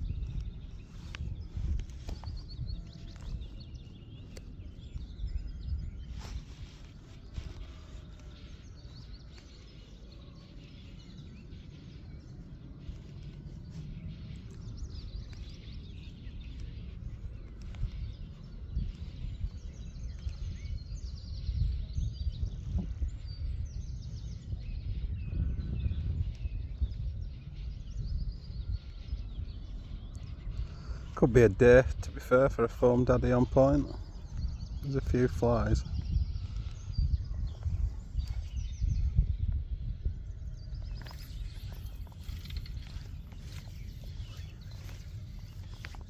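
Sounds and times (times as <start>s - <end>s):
small birds chirping faintly: 0.0s - 46.0s
wind buffeting microphone: 0.0s - 46.0s.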